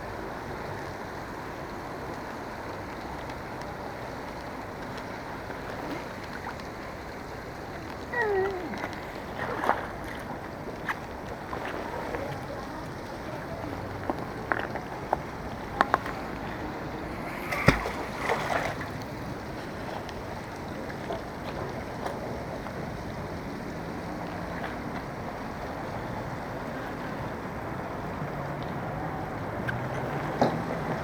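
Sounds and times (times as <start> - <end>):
riverside background noise: 0.0 - 31.0.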